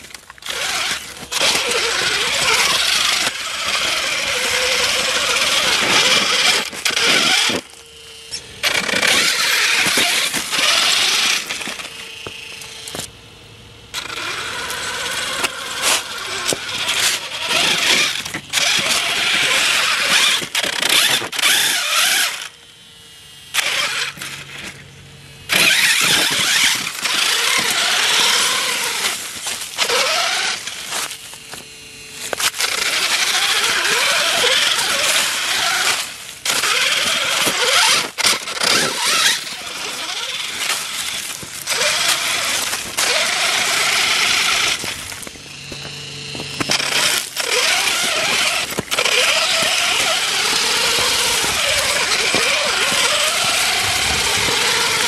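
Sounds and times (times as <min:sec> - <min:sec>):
tyres scrabbling on stone: 0:00.0 - 0:07.9, 0:08.6 - 0:13.1, 0:14.0 - 0:22.2, 0:25.5 - 0:55.0
toy truck motor whine: 0:00.0 - 0:55.0.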